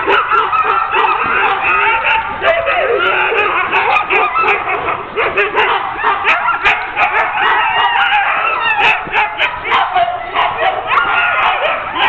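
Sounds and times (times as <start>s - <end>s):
dogs barking and crying out: 0.0s - 12.0s.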